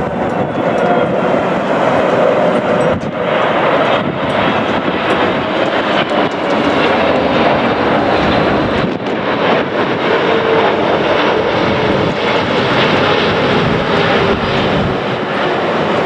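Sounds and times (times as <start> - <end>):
jet airliner engines rushing: 0.0 - 16.0.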